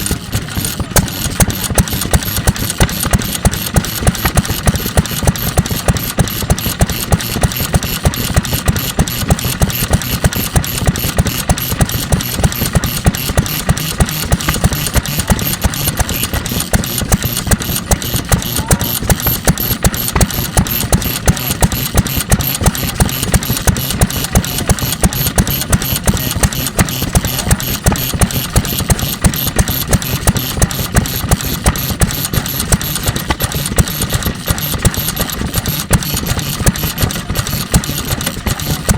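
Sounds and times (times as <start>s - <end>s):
stationary engine firing beat: 0.0s - 38.9s
valve gear clatter: 0.0s - 38.9s.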